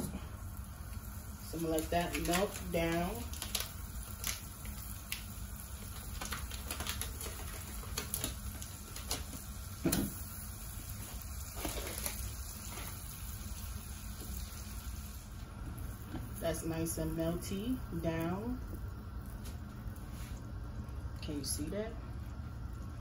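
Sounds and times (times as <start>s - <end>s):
butter sizzling in a saucepan: 0.0s - 23.0s
low steady hum: 0.0s - 23.0s.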